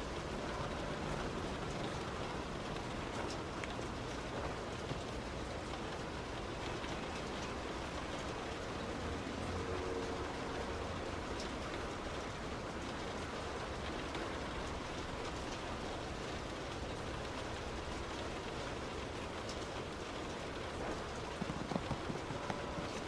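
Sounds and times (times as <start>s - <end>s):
heavy rain on car: 0.0s - 23.0s
tyre and road noise: 0.0s - 23.0s.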